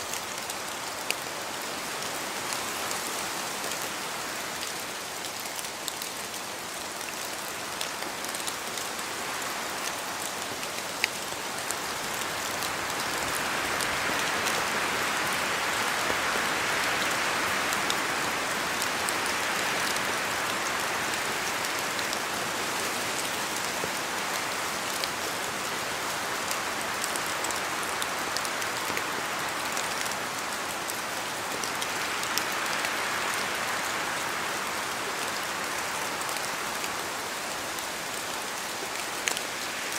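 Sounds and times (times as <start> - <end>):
steady rain in forest: 0.0 - 39.9
wind gusting through trees: 0.0 - 39.9.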